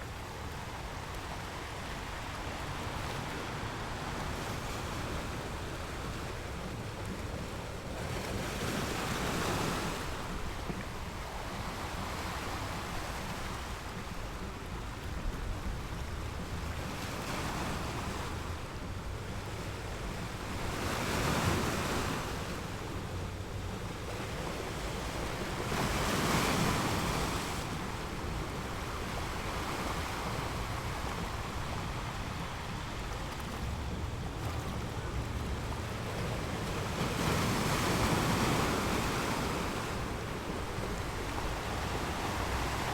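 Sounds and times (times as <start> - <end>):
wind rumbling on microphone: 0.0 - 42.9.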